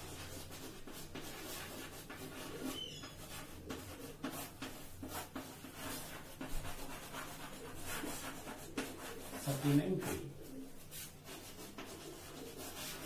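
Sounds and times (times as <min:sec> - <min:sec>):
chalk scratching on blackboard: 0:00.0 - 0:13.0.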